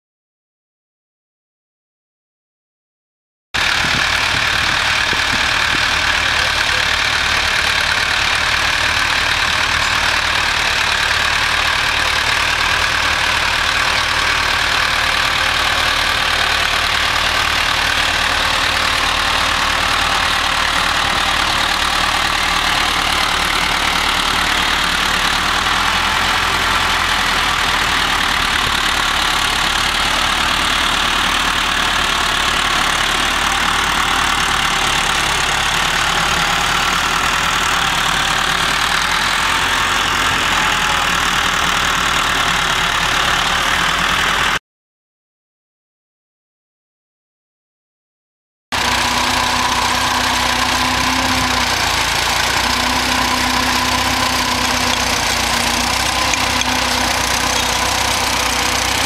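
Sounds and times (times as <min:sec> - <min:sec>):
tractor diesel engine running: 0:03.6 - 0:44.6, 0:48.7 - 0:59.0.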